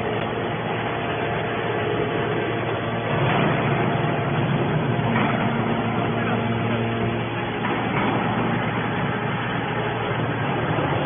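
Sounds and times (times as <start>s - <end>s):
hydraulic baler hum and hiss: 0.0s - 11.0s.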